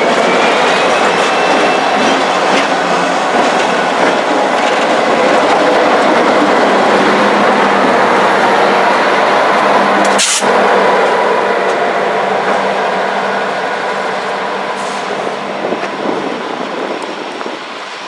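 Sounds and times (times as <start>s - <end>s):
train passing by: 0.0s - 18.0s.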